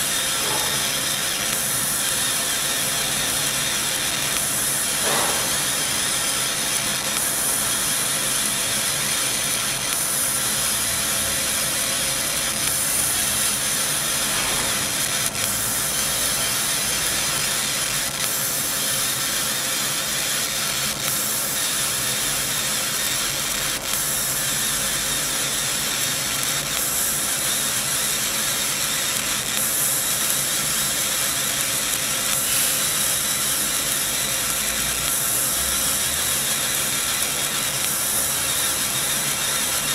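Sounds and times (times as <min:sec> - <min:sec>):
laser cutter hiss and whir: 0:00.0 - 0:39.9.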